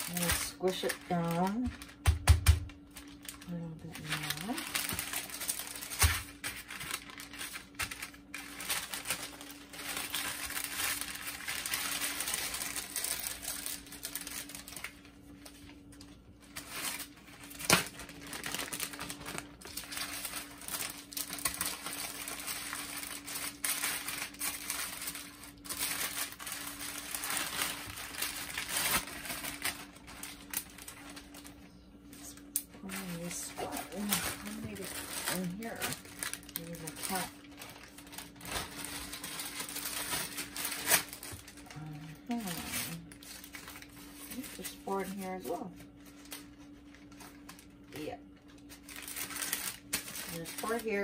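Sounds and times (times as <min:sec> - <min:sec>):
plastic bag crinkling: 0:00.0 - 0:51.0.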